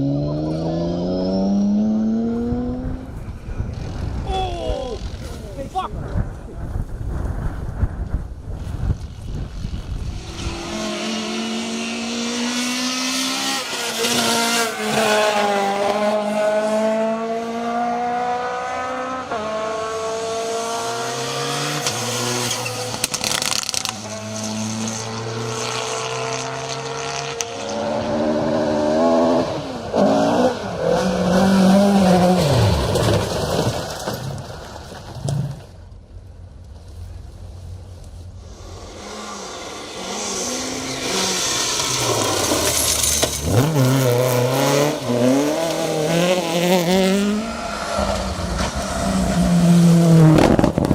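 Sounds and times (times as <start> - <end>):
rally car engine at full throttle: 0.0 - 35.7, 38.4 - 50.9.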